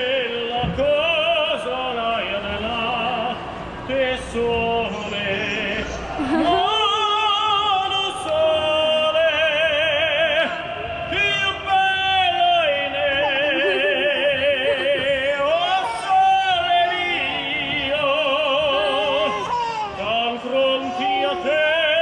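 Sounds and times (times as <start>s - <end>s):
man singing operatically: 0.0s - 22.0s.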